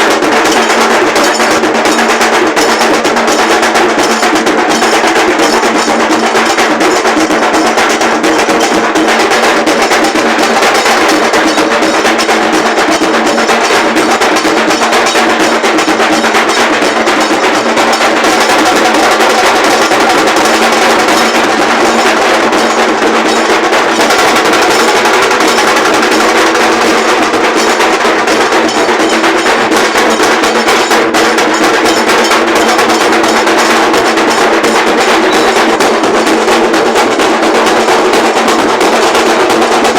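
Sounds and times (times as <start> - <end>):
large drums playing fast rhythm: 0.0 - 39.9.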